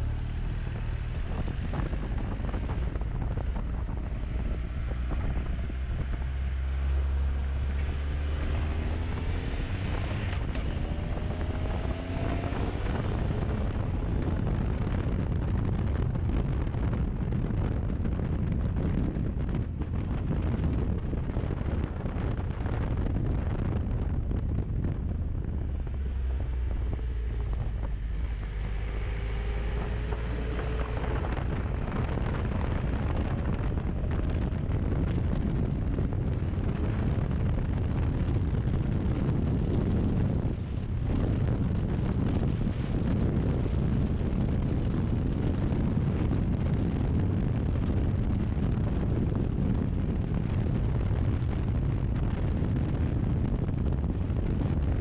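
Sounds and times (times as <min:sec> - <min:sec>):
motorcycle engine accelerating: 0:00.0 - 0:55.0
wind rush on microphone: 0:00.0 - 0:55.0.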